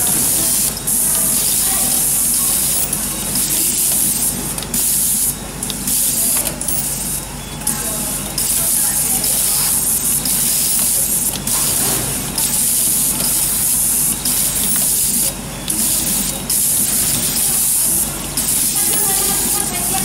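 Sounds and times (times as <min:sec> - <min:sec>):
cable stripping machine hiss: 0:00.0 - 0:20.0.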